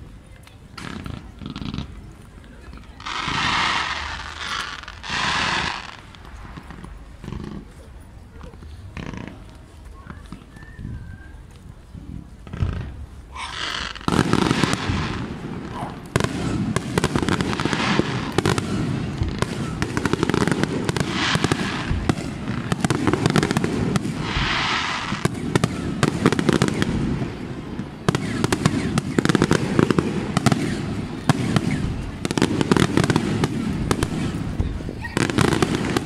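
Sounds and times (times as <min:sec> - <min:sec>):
fireworks bangs and crackling: 0:00.0 - 0:10.8, 0:12.2 - 0:36.0.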